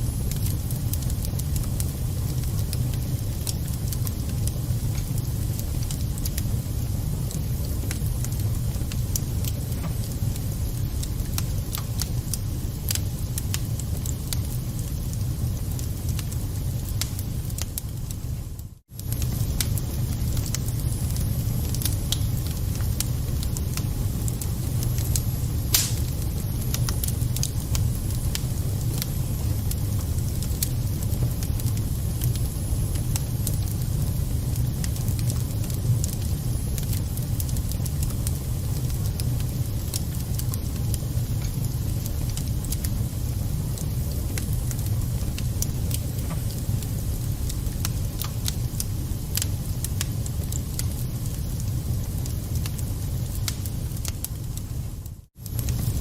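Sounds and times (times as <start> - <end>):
low fire rumble: 0.0 - 56.0
wood fire crackling and popping: 0.0 - 56.0.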